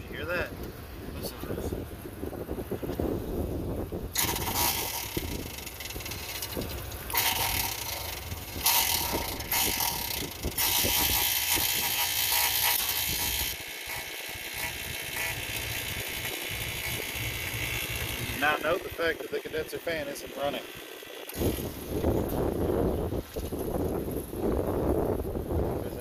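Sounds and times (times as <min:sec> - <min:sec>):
compressor humming: 0:00.0 - 0:26.0.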